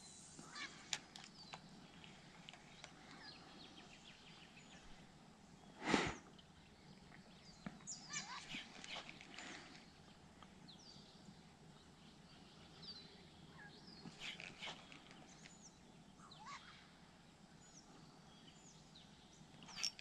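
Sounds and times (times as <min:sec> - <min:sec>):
faint bird chirps and calls: 0:00.0 - 0:20.0.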